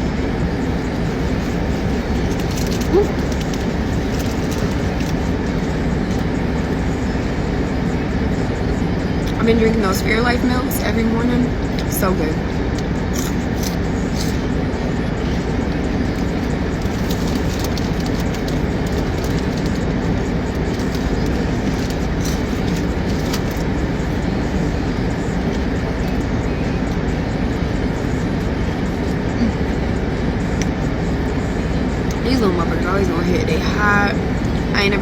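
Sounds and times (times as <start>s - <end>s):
low rumbling noise: 0.0s - 35.0s.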